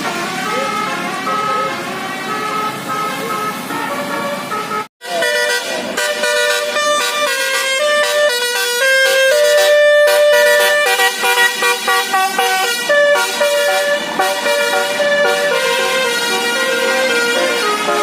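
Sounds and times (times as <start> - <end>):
musical horn playing a tune: 0.0 - 18.0.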